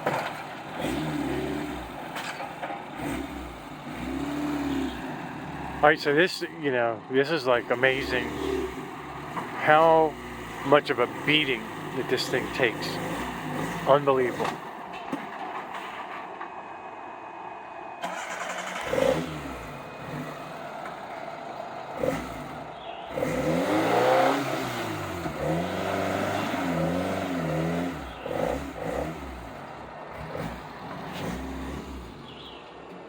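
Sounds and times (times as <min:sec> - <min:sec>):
off-road vehicle engine revving: 0:00.0 - 0:14.9, 0:18.0 - 0:32.7.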